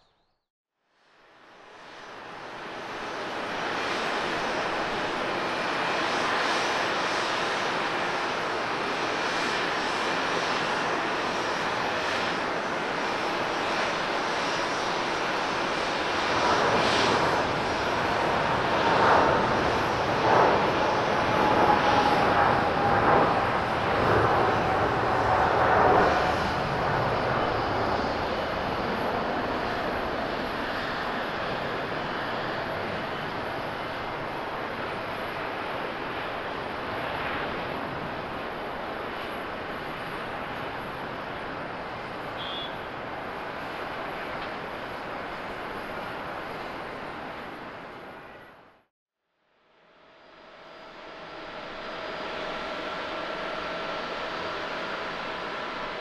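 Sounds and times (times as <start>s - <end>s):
jet engine whine falling in pitch: 1.0s - 48.6s, 49.8s - 56.0s
jet engine roar: 1.5s - 48.6s, 50.2s - 56.0s.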